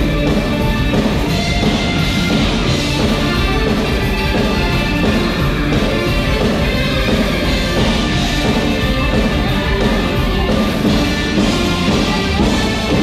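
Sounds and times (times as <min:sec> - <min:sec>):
loud dance music: 0:00.0 - 0:13.0.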